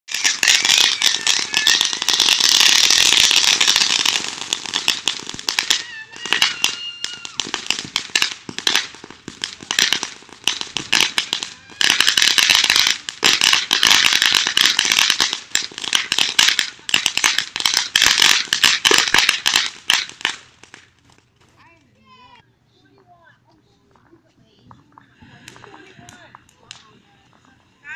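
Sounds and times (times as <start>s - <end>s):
firecrackers popping: 0.1s - 21.4s, 22.9s - 27.9s.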